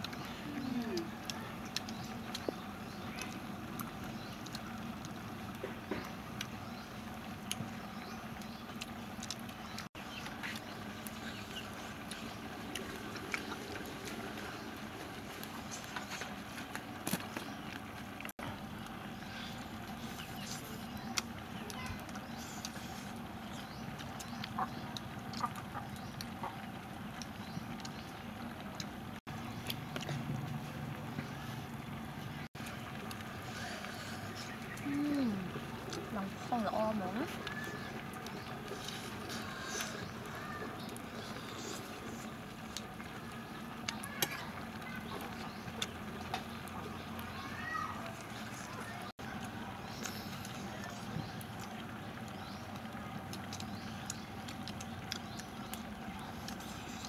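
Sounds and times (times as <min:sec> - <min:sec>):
chewing and mouth smacks: 0:00.0 - 0:19.0, 0:19.8 - 0:31.9, 0:32.5 - 0:36.1, 0:37.2 - 0:47.4, 0:48.0 - 0:57.0
low background hum: 0:00.0 - 0:57.0.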